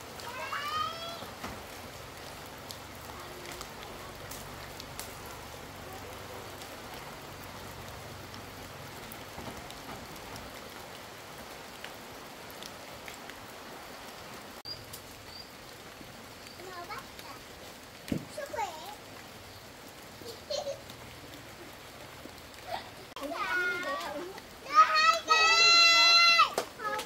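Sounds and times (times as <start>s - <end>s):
light taps of raindrops: 0.0s - 27.0s
rain hissing: 0.0s - 27.0s.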